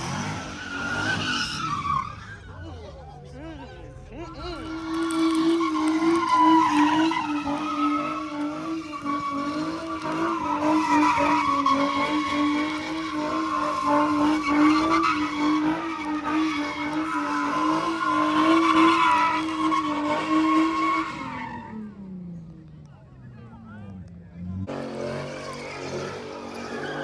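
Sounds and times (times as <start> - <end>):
car engine at high revs: 0.0 - 2.5, 4.1 - 27.0
car tires screeching: 0.0 - 27.0.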